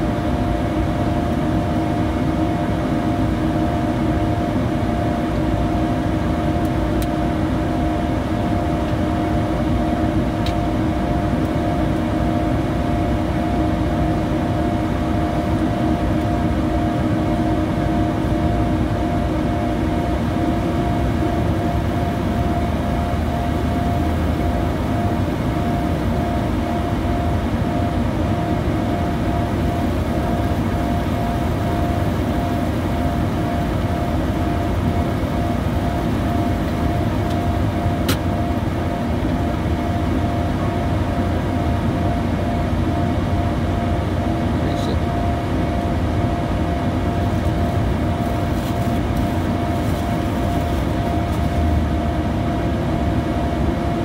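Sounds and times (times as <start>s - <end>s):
jet engine drone: 0.0s - 54.0s.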